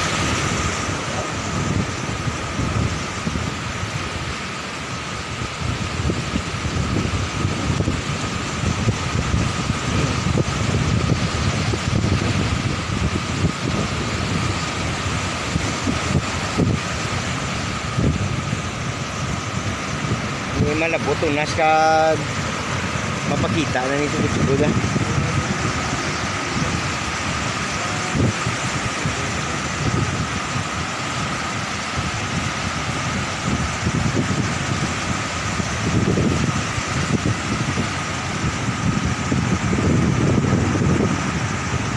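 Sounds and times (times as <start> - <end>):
surf breaking on shore: 0.0 - 41.9
wind buffeting microphone: 0.0 - 41.9.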